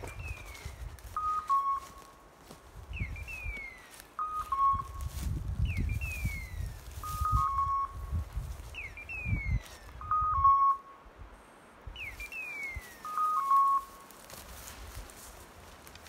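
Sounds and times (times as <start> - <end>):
footsteps through undergrowth: 0.0 - 10.0, 12.0 - 16.0.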